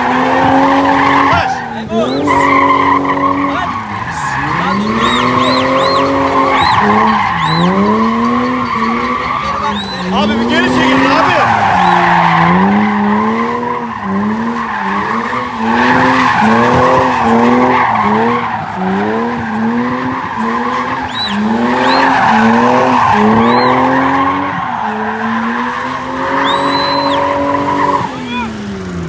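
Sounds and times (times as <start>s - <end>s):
tyres squealing: 0.0s - 28.6s
car engine revving: 0.0s - 29.0s.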